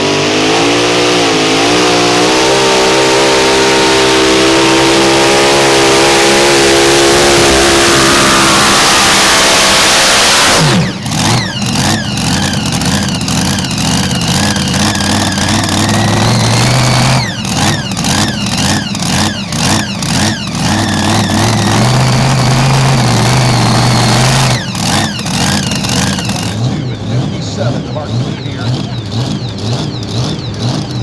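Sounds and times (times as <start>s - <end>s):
tractor engine at high revs: 0.0s - 31.0s.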